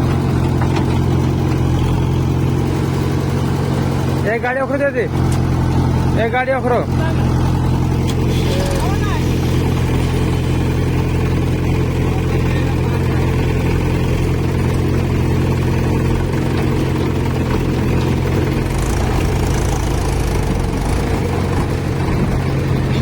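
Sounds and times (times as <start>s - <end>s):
diesel engine running steadily: 0.0s - 23.0s.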